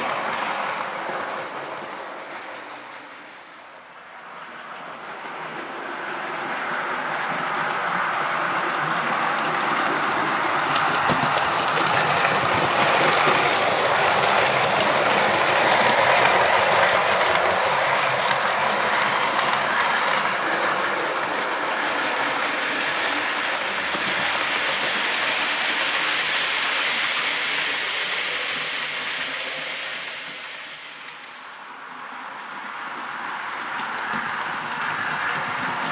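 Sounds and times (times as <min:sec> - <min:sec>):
model train running on track: 0:00.0 - 0:35.9.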